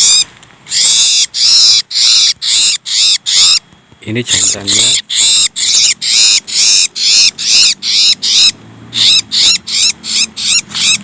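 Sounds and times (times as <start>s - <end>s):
songbird chirping harshly: 0.0s - 3.6s, 4.3s - 11.0s.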